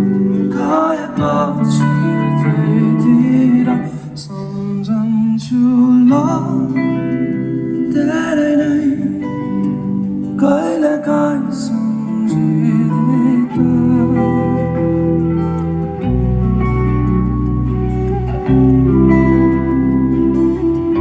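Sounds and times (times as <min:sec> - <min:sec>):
person singing: 0:00.0 - 0:17.0
guitar playing: 0:00.0 - 0:21.0
live band over loudspeakers: 0:00.0 - 0:21.0.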